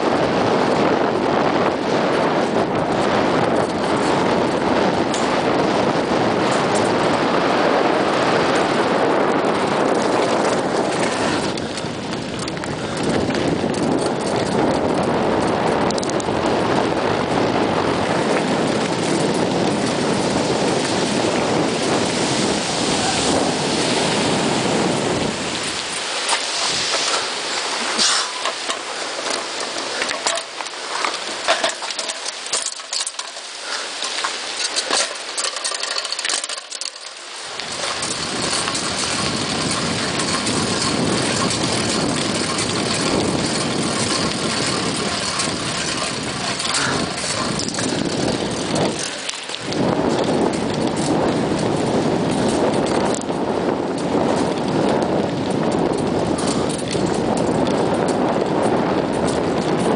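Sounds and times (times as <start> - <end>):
bike clicks and rattles: 0.0 - 59.9
tyres on gravel: 0.0 - 59.9
wind on microphone: 0.0 - 59.9.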